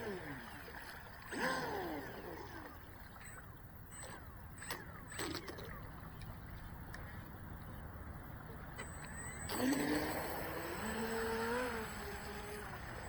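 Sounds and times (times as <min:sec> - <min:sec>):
electric boat motor whine: 0:00.0 - 0:13.0.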